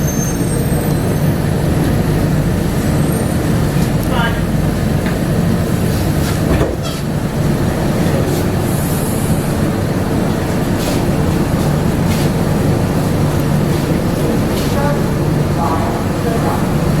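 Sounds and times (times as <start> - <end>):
people mover rumbling on guideway: 0.0 - 17.0.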